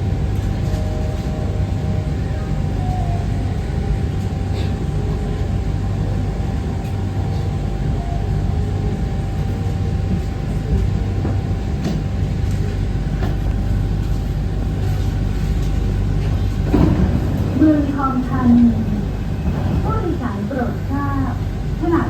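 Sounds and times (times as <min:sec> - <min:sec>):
monorail train rumble: 0:00.0 - 0:22.0.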